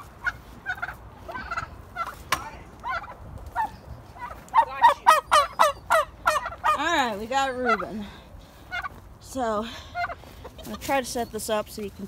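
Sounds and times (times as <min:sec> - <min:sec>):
chickens squawking in alarm: 0:00.0 - 0:09.0, 0:09.9 - 0:10.9.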